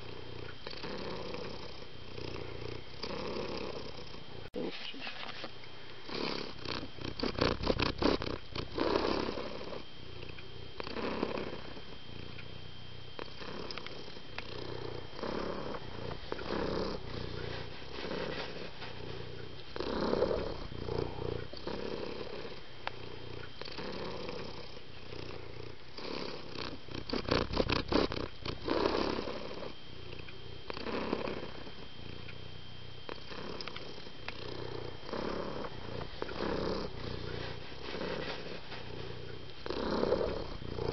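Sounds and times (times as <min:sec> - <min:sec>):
cat purring: 0:00.0 - 0:05.4, 0:06.0 - 0:40.9.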